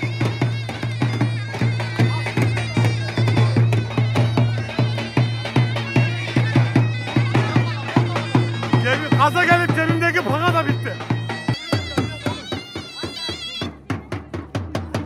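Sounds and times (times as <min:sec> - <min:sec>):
wind instrument melody: 0:00.0 - 0:14.0
drum beat: 0:00.0 - 0:15.0.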